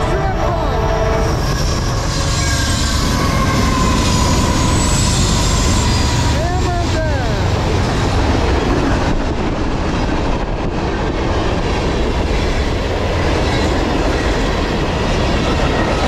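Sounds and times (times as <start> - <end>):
freight train wheels rolling: 0.0 - 16.0.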